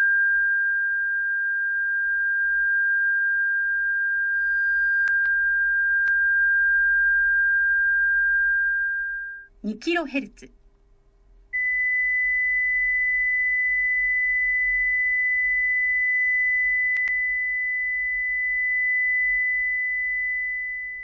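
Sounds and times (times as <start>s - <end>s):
sine test tone: 0.0s - 9.5s, 11.5s - 21.0s.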